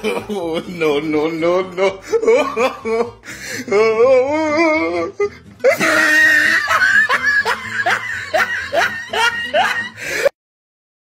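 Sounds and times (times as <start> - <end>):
person laughing: 0.0 - 10.3.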